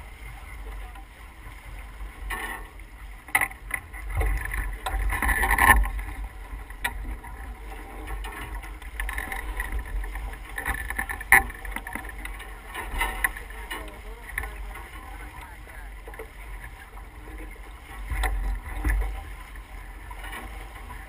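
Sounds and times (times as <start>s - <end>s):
water rushing along boat hull: 0.0s - 21.0s
wind rumbling on microphone: 0.0s - 21.0s.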